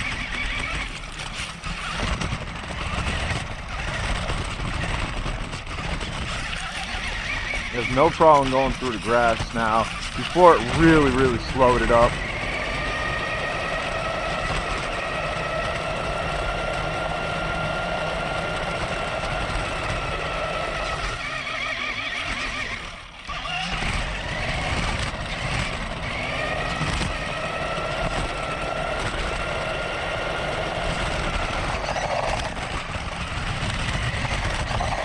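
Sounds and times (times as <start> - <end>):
rc truck electric motor whine: 0.0 - 35.0.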